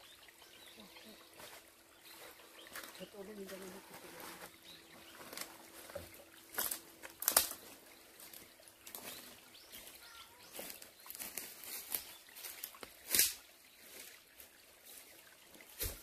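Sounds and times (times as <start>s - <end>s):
dry leaves crackling underfoot: 1.4s - 14.3s.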